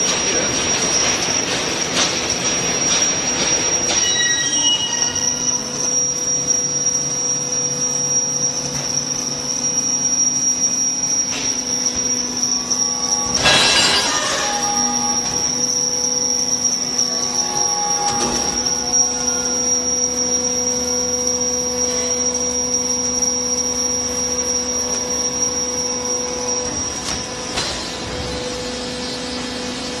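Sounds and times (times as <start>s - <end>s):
hydraulic baler whine: 0.0s - 30.0s
high squeal: 3.0s - 27.3s.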